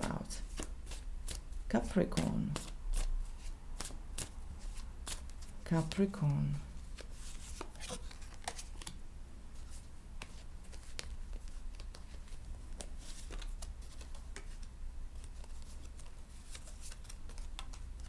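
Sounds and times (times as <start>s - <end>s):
cards being shuffled: 0.3s - 6.1s, 6.8s - 9.0s, 9.6s - 18.0s.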